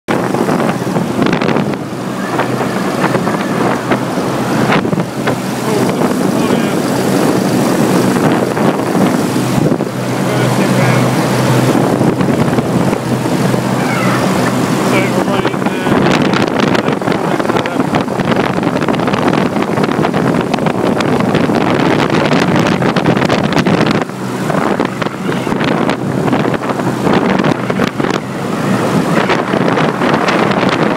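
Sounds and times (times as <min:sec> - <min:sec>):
compressor hum: 0:00.1 - 0:30.9
fan air noise: 0:00.1 - 0:30.9.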